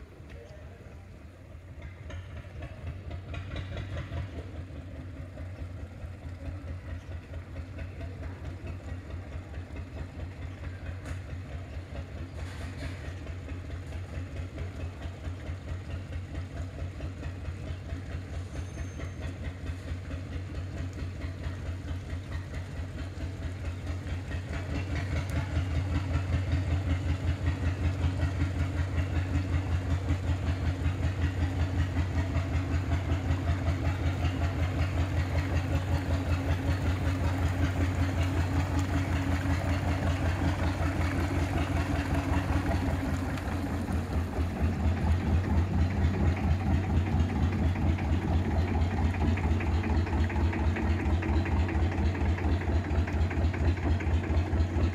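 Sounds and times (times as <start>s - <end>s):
boat diesel engine chugging: 0.0s - 54.9s.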